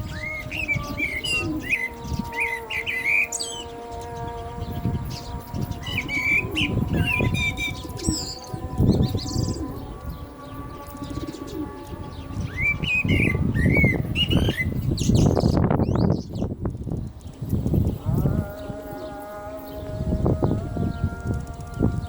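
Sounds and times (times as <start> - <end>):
blackbird singing: 0.0 - 22.0.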